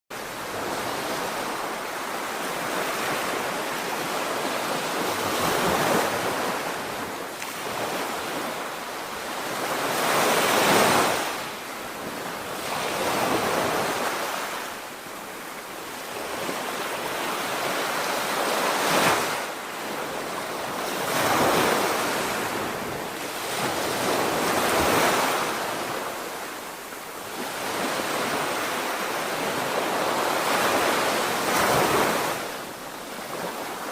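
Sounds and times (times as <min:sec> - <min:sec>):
waves breaking on beach: 0:00.2 - 0:33.9.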